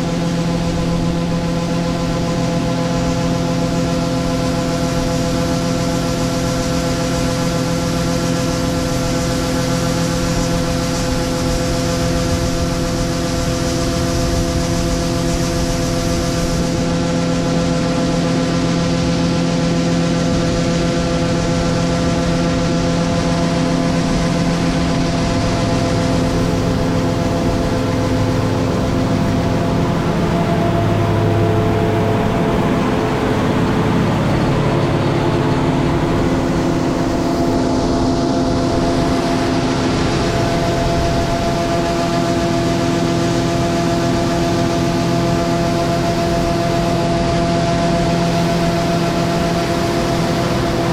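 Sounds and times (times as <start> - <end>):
combine harvester engine drone: 0.0 - 50.9.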